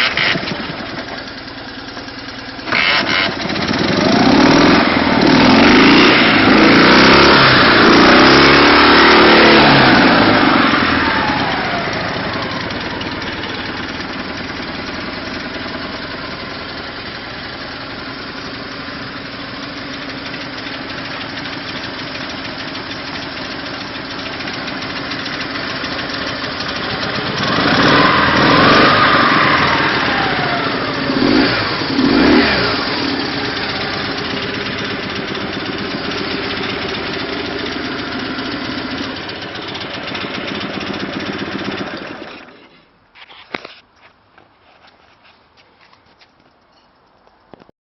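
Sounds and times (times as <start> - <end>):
motorcycle engine revving and idling: 0.0 - 42.8.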